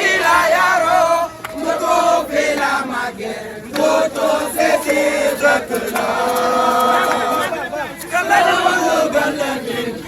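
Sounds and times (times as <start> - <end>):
men chanting and singing: 0.0 - 10.0.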